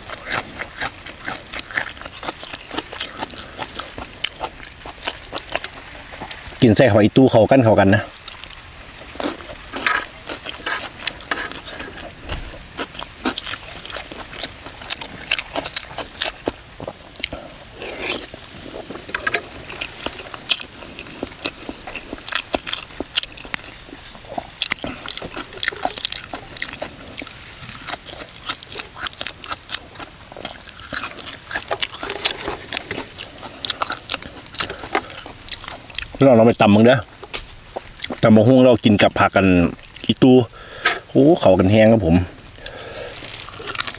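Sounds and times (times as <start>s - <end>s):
person chewing crunchy food: 0.0s - 6.6s, 8.1s - 40.8s, 42.4s - 43.9s.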